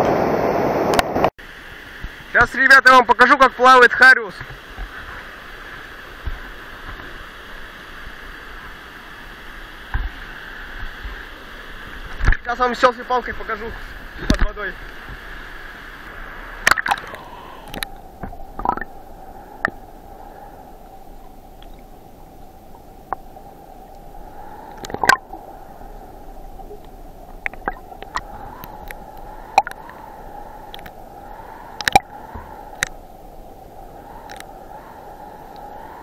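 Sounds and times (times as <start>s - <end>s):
muffled underwater river rush: 0.0s - 36.0s.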